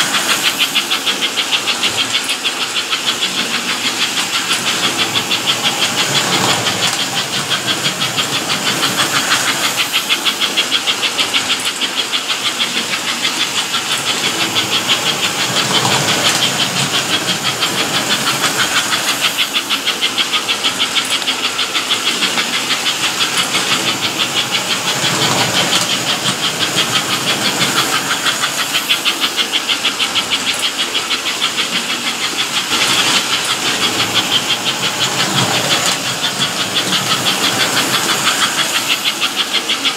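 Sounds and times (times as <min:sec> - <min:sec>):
fast pulsing hiss: 0:00.0 - 0:39.9
model trains whirring and rattling: 0:00.0 - 0:39.9.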